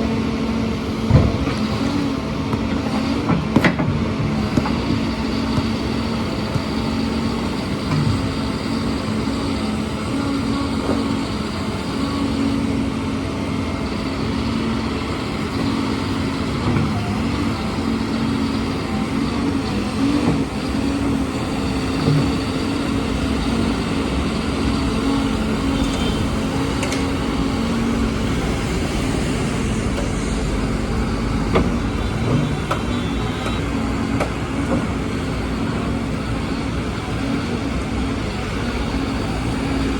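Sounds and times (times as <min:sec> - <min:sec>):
heavy engine droning: 0:00.0 - 0:39.9
street noise: 0:00.0 - 0:39.9.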